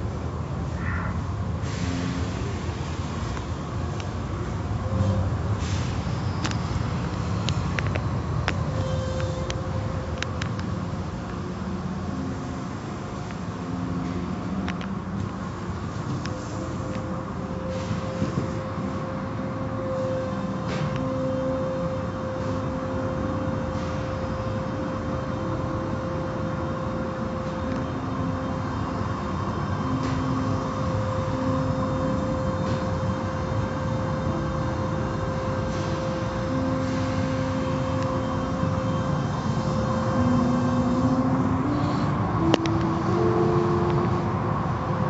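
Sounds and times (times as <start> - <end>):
machinery hum: 0.0 - 45.0.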